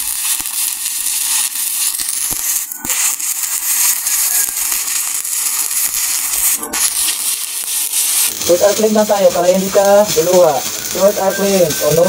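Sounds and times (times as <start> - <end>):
welding arc crackling hiss: 0.0 - 12.0.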